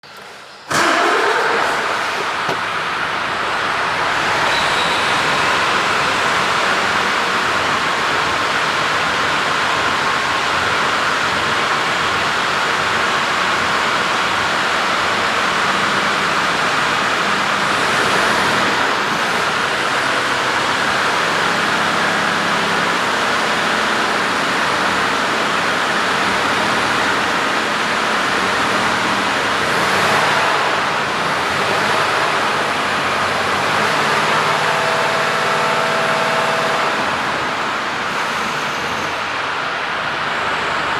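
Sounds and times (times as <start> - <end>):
diesel truck engine idling: 0.0 - 4.5, 5.3 - 40.9.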